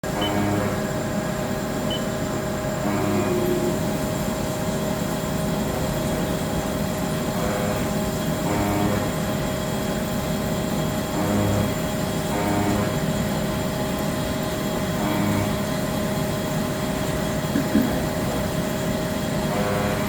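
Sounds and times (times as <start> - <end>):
lathe machine hum with whine: 0.0 - 20.0.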